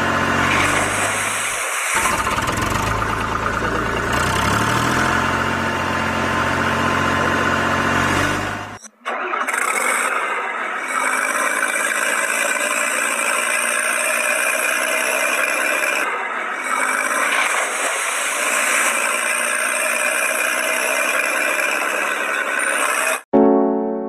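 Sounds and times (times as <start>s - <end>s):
tractor engine running: 0.0s - 23.3s.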